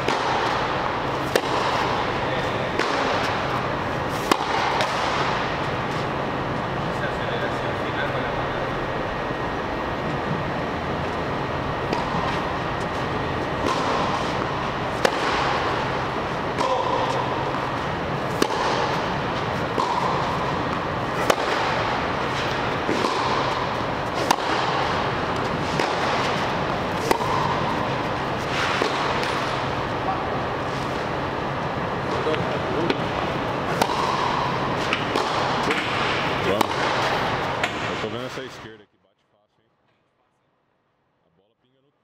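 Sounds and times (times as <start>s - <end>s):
tennis balls struck by racquets: 0.0s - 6.9s, 10.0s - 38.1s
steady hum: 0.0s - 42.0s.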